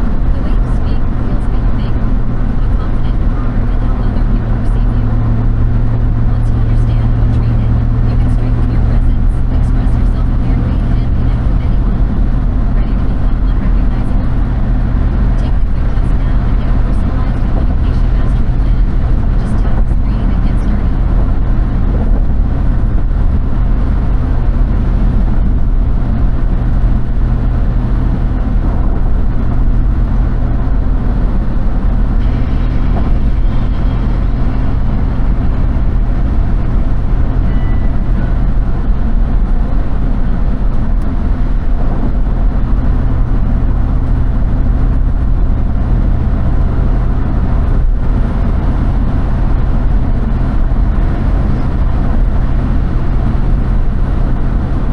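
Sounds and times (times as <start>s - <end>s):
car road and engine drone: 0.0s - 54.9s.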